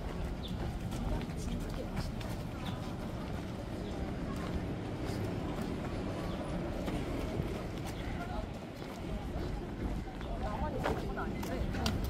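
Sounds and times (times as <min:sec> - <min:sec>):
faint voices: 0:00.0 - 0:12.0
footsteps walking: 0:00.0 - 0:12.0.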